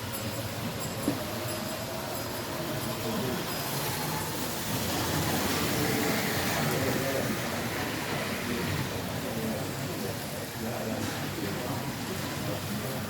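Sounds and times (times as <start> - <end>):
chatter of many voices: 0.0 - 13.0.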